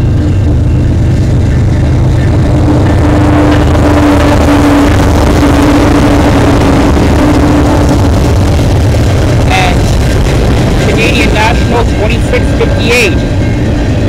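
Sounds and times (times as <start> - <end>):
constant hum: 0.0 - 14.0
diesel locomotives rumbling past: 0.0 - 14.0.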